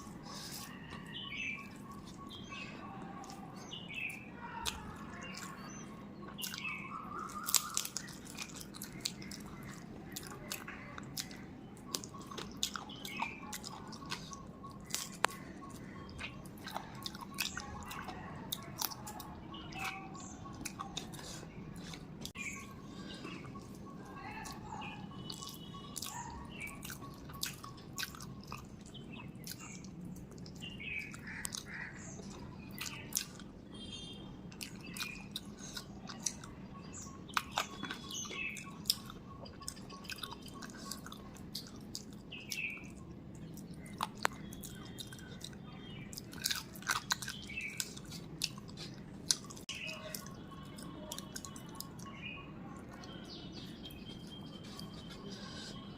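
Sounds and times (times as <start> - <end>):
faint birds chirping: 0.0 - 55.9
person chewing with wet clicks: 0.0 - 55.9.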